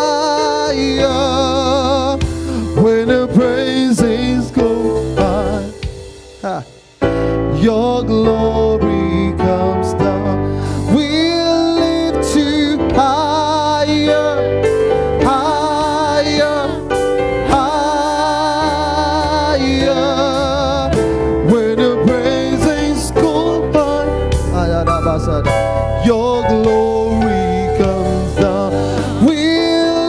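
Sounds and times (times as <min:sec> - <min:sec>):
keyboard accompaniment: 0:00.0 - 0:30.0.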